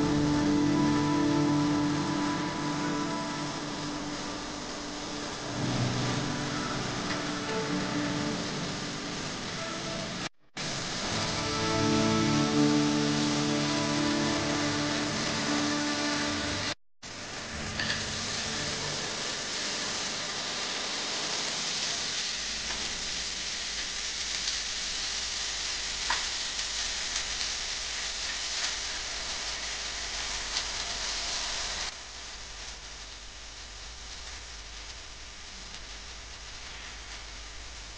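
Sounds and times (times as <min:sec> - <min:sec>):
vegetables sizzling in oil: 0:00.0 - 0:37.9.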